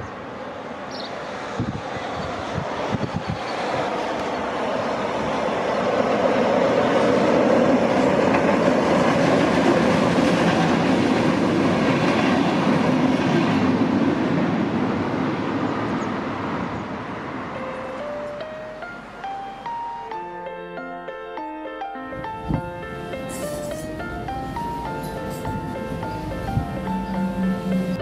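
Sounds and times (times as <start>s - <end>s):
train passing on rails: 0.0s - 28.0s.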